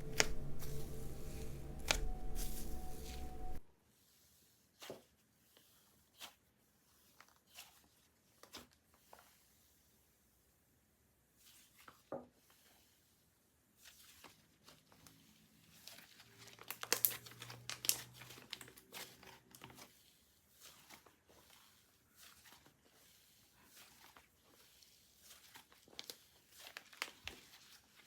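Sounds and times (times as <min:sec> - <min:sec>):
slime crackling and crinkling: 0:00.0 - 0:03.6, 0:04.8 - 0:09.8, 0:13.8 - 0:28.0.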